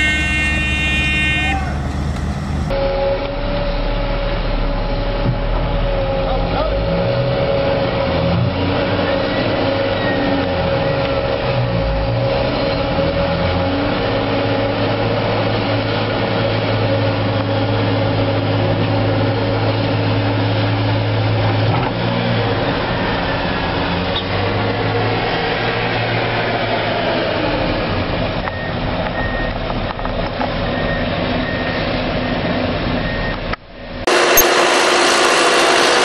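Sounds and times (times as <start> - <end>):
heavy diesel engines under load: 0.0 - 36.0.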